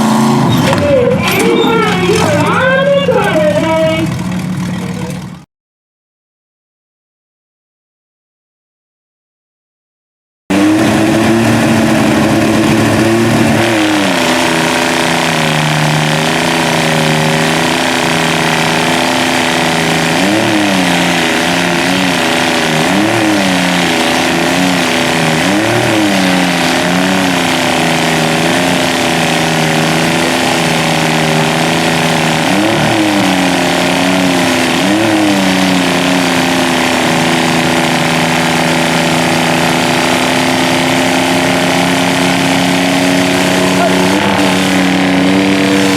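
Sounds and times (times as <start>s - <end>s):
truck engine revving: 0.0s - 5.4s, 10.5s - 45.9s.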